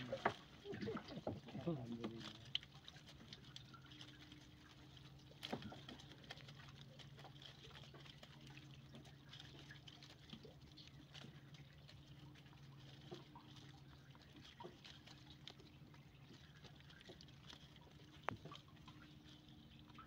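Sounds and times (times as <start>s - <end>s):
faint low hum: 0.0s - 20.0s
wet net dripping: 0.0s - 20.0s.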